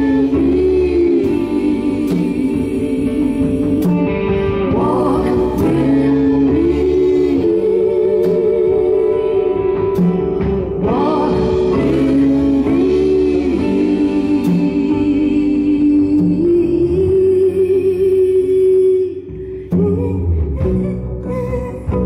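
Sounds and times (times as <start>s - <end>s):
live band playing: 0.0s - 18.2s
drums: 0.0s - 22.0s
electric bass: 0.0s - 22.0s
keyboard: 0.0s - 22.0s.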